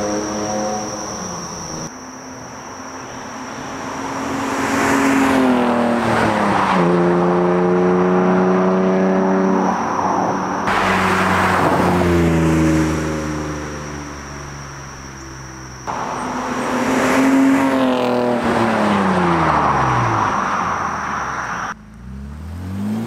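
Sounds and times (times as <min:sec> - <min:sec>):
car engine accelerating hard: 0:03.5 - 0:15.0, 0:15.8 - 0:23.0.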